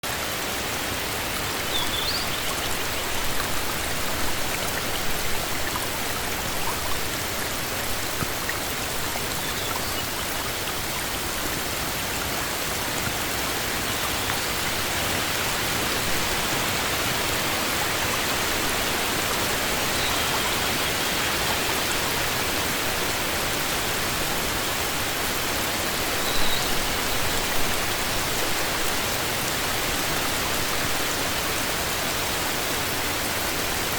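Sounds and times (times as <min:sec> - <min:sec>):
heavy rain on forest: 0:00.0 - 0:33.9.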